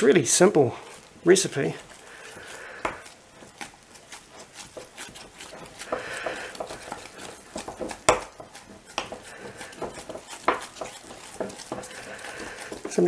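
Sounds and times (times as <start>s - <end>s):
knife scraping glass jug: 0.8s - 13.0s.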